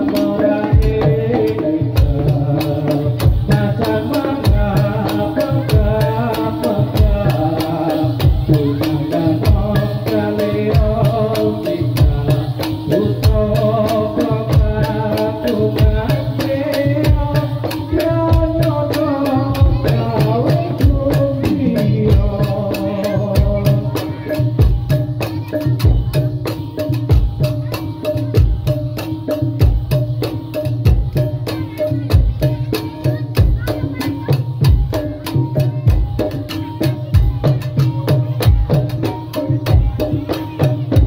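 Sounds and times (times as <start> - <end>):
deep drum beat: 0.0 - 41.0
fast clicking percussion: 0.0 - 41.0.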